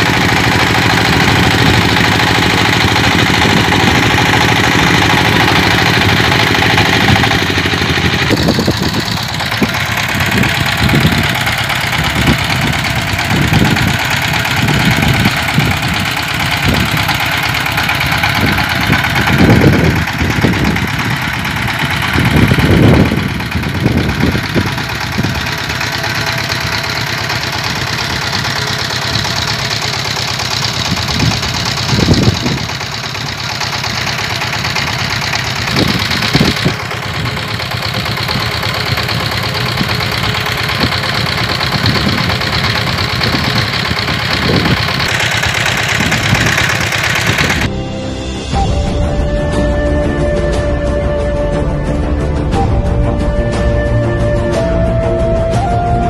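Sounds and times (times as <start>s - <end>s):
small diesel engine running winch: 0.0s - 56.0s.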